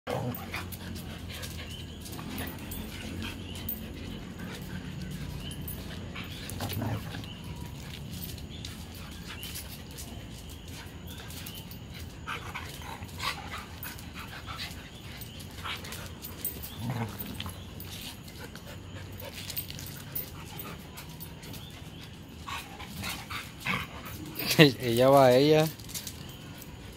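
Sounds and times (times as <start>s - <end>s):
dogs scuffling: 0.1s - 26.9s
dogs yipping and whining: 0.1s - 26.9s.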